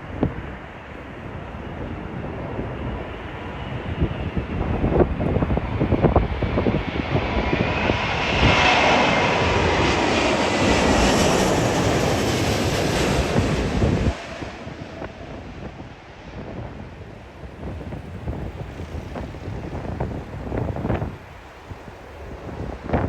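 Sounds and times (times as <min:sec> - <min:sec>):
airliner engines whining: 0:00.0 - 0:23.0
wind buffeting the microphone: 0:00.0 - 0:23.0.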